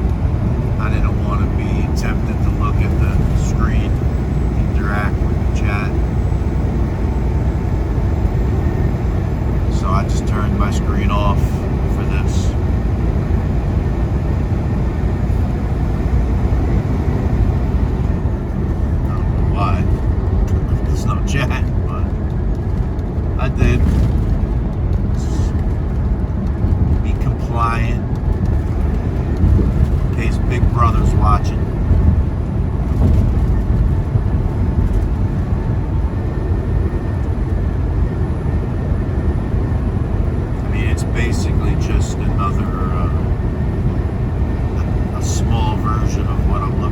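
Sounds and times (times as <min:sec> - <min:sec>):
diesel engine drone: 0:00.0 - 0:46.9
road noise: 0:00.0 - 0:46.9.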